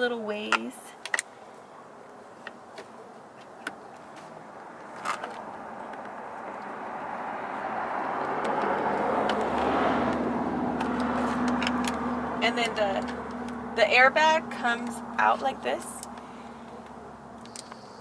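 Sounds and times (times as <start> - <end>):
vehicle engine and tyre noise: 1.0 - 18.0.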